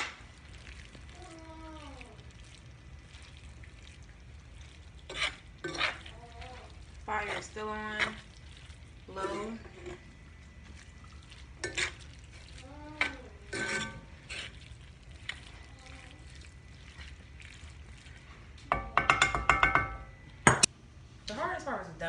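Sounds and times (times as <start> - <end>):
meat frying sizzle: 0.0 - 19.7
spoon scraping a skillet: 2.2 - 20.7.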